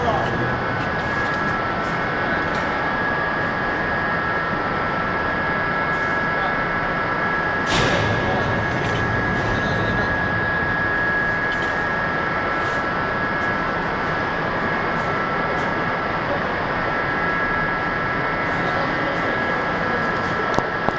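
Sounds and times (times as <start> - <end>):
machinery running with high whine: 0.0 - 20.9.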